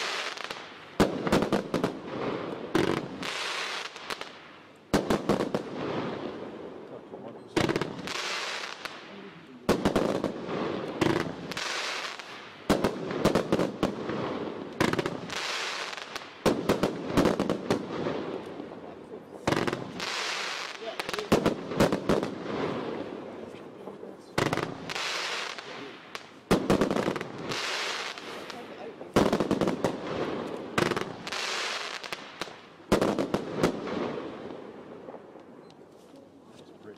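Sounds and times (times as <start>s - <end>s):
firework bangs: 0.0s - 6.8s, 7.5s - 23.4s, 24.3s - 35.6s.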